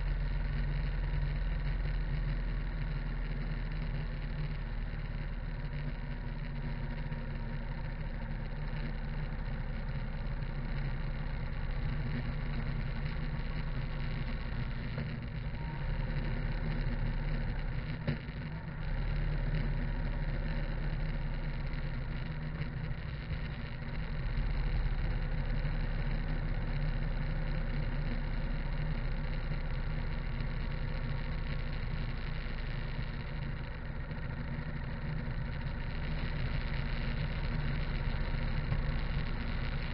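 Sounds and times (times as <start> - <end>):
motorcycle engine running: 0.0 - 39.9
wind and tyre noise: 0.0 - 39.9.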